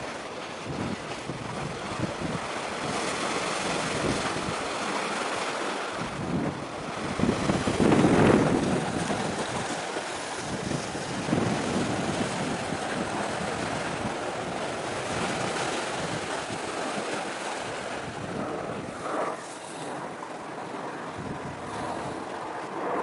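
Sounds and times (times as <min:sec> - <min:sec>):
waves washing against shore: 0:00.0 - 0:23.0
wind on microphone: 0:00.0 - 0:23.0.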